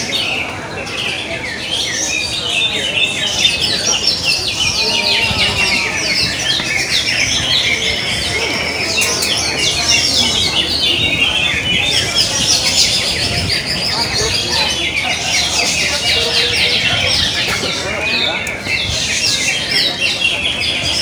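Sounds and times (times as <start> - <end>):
chorus of songbirds chirping: 0.0 - 21.0.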